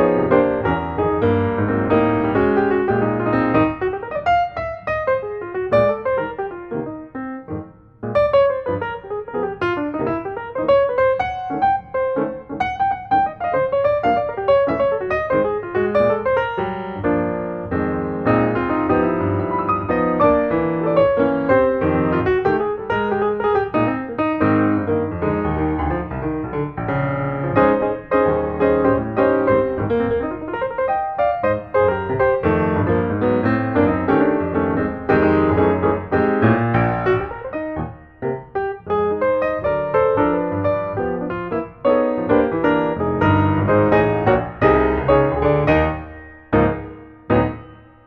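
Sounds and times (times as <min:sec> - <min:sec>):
piano music: 0:00.0 - 0:48.0.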